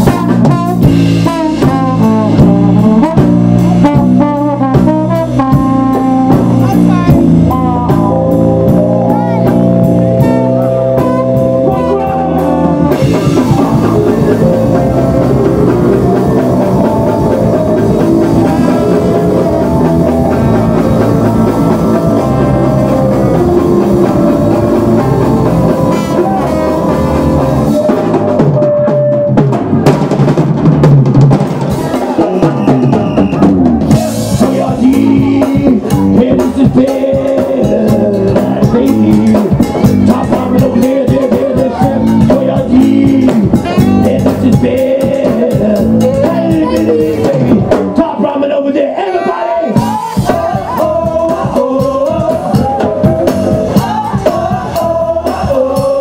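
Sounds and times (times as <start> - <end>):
electric bass: 0.0 - 30.4, 31.0 - 48.1, 49.8 - 56.0
drum kit: 0.0 - 48.2, 49.7 - 56.0
live band playing: 0.0 - 48.4, 49.6 - 56.0.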